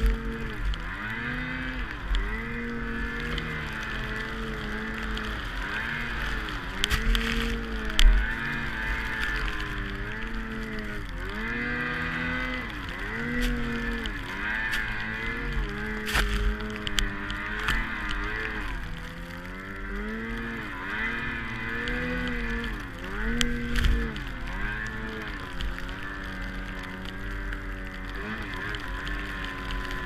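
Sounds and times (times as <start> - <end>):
snow machine engine revving: 0.0 - 30.0.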